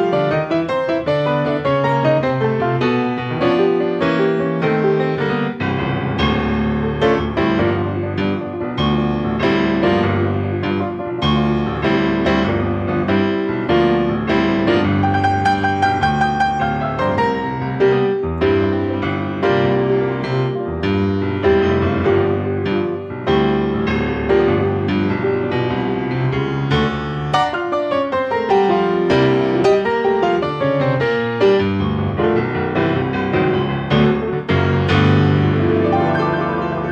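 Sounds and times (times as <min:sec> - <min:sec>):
gentle piano music: 0:00.0 - 0:36.9.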